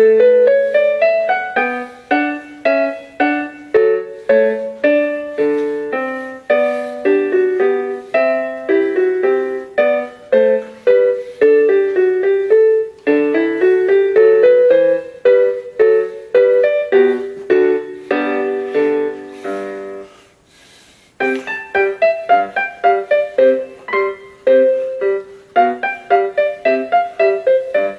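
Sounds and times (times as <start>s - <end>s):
electronic keyboard piano melody: 0.0s - 20.4s, 21.2s - 27.9s.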